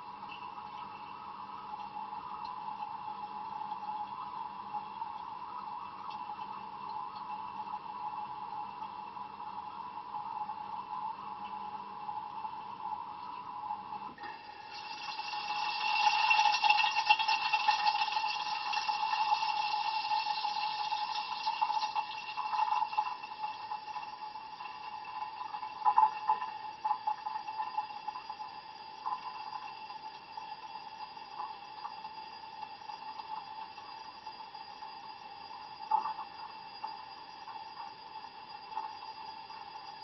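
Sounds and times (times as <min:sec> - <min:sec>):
water dripping: 0:00.0 - 0:34.4.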